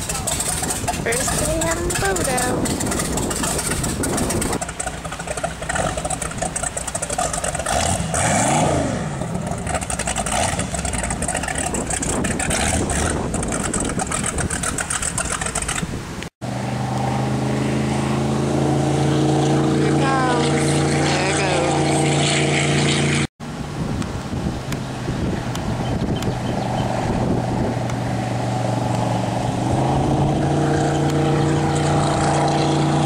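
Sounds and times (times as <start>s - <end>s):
wind noise: 0.0s - 16.3s, 18.0s - 33.0s
motorboat engine running: 0.0s - 33.0s
water noise: 0.0s - 33.0s.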